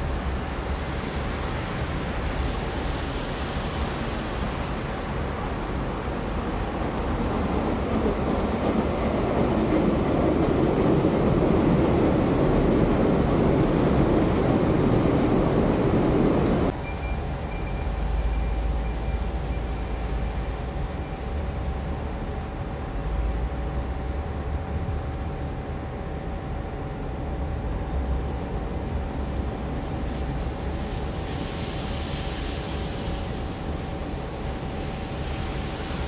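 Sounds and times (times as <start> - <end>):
train passing close by: 0.0 - 36.0.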